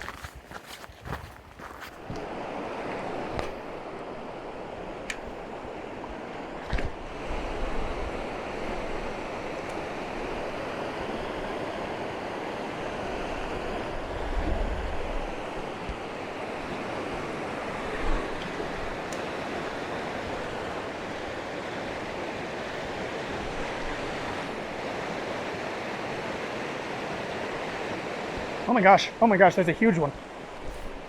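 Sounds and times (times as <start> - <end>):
wind rumble on microphone: 0.0 - 25.6
river water rushing: 0.0 - 31.0.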